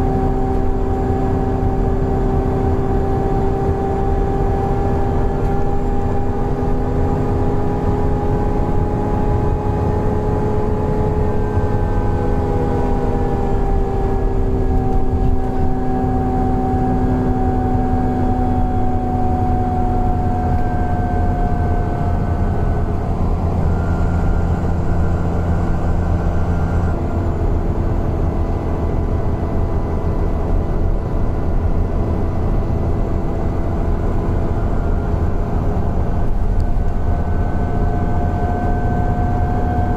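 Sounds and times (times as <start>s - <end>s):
bus engine drone: 0.0s - 39.9s
whining tones: 4.4s - 39.9s.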